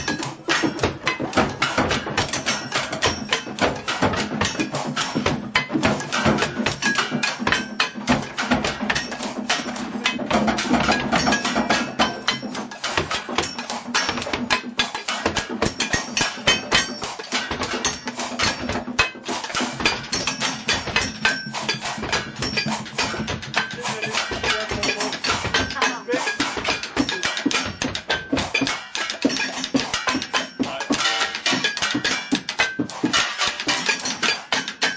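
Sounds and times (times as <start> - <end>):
drumming on kitchen utensils: 0.0 - 34.9.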